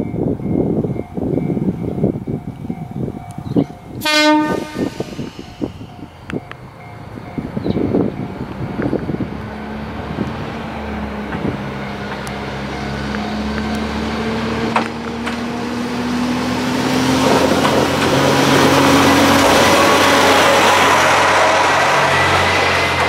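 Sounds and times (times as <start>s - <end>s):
railcar diesel engine: 0.0s - 23.0s
wheel and rail rushing: 1.0s - 23.0s.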